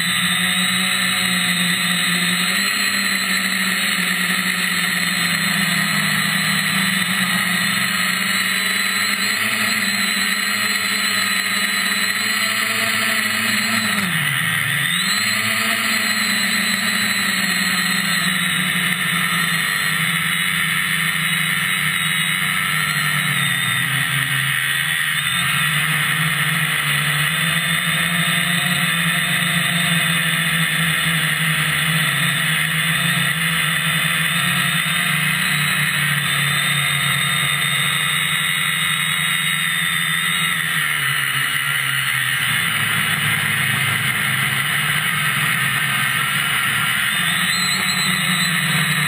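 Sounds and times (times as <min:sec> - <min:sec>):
quadcopter motors whining: 0:00.0 - 0:49.0.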